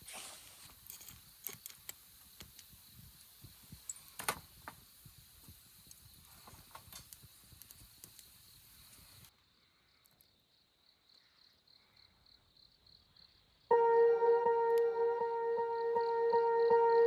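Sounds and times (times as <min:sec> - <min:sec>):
night insects trilling: 0:00.4 - 0:17.0.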